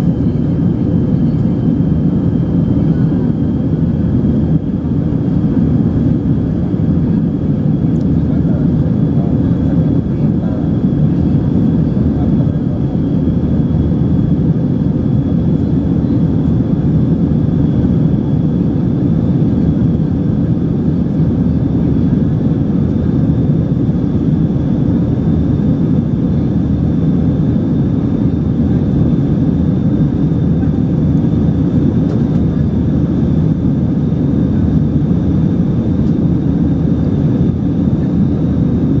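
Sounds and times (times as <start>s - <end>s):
airliner cabin engine noise: 0.0s - 39.0s.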